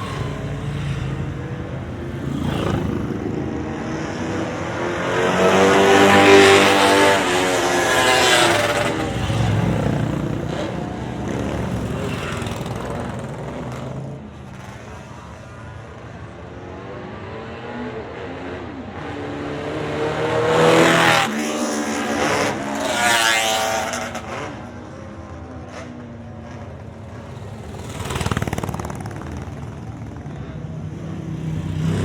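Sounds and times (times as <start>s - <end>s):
motorcycles riding past: 0.0s - 32.0s.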